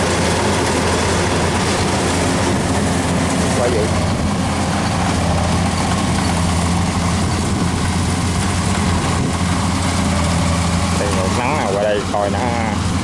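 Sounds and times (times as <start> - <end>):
combine harvester diesel engine: 0.0 - 13.0.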